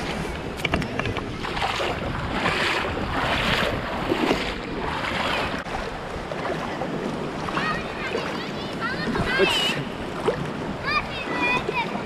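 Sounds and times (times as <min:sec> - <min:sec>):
stream water rushing and splashing: 0:00.0 - 0:12.0.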